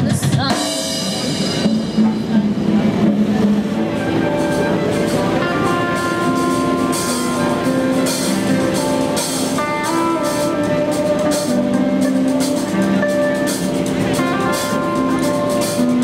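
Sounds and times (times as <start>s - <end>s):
drums: 0.0s - 16.0s
electric guitar: 0.0s - 16.0s
cymbals struck: 0.5s - 16.0s.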